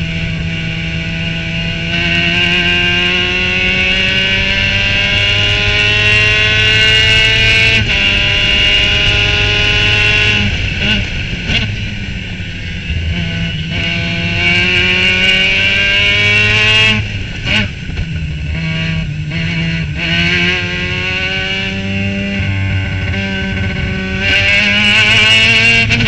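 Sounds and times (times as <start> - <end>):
engine blips on downshifts: 0.0 - 26.0
race car engine revving: 0.0 - 26.0.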